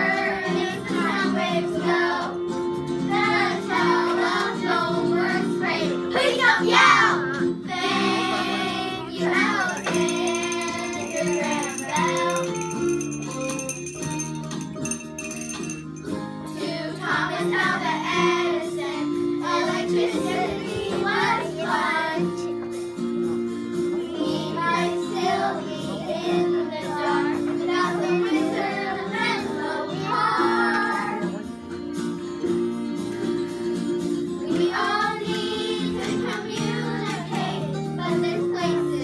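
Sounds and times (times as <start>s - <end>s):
children singing: 0.0s - 13.0s, 16.5s - 22.6s, 23.8s - 31.5s, 34.3s - 39.0s
instrumental accompaniment: 0.0s - 39.0s.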